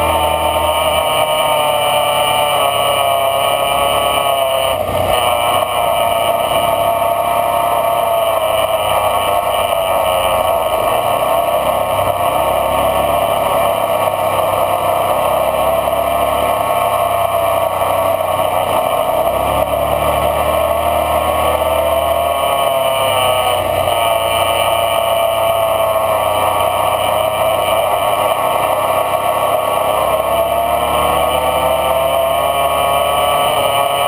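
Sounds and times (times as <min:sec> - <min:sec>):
off-road vehicle engine running: 0:00.0 - 0:34.0.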